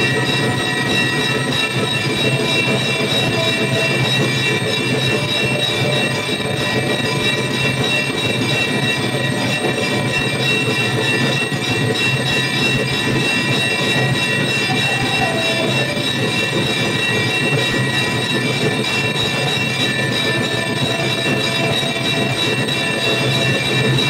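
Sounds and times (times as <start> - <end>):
brass bells clanging: 0.0 - 24.0.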